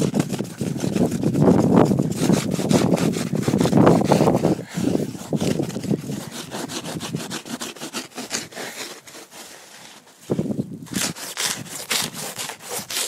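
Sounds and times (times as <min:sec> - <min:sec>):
scraping ice off a car: 0:00.0 - 0:13.0.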